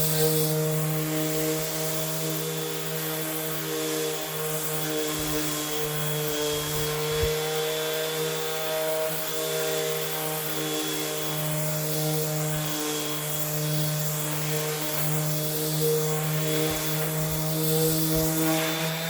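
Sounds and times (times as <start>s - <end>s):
disc sander sanding wood: 0.0s - 19.0s.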